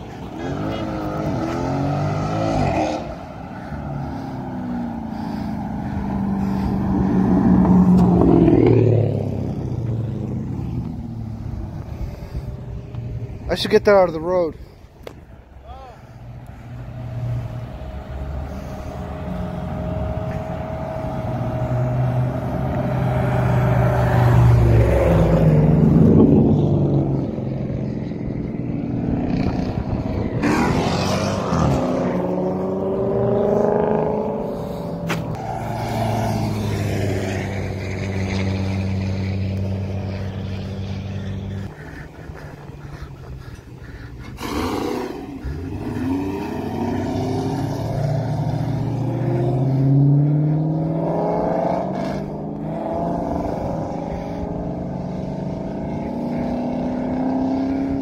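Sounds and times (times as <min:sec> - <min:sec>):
car exhausts rumbling past: 0:00.0 - 0:14.8, 0:16.1 - 0:58.0.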